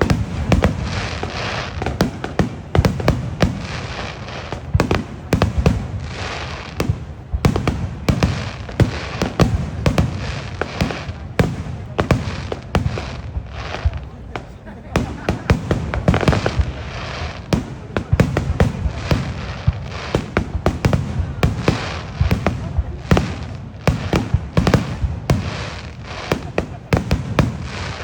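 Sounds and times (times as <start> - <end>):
fireworks bangs: 0.0 - 28.0
fireworks crackling hiss: 0.0 - 28.0.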